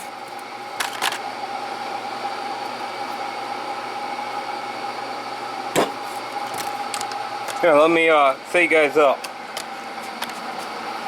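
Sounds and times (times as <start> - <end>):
mechanical whir with whine: 0.0 - 11.0.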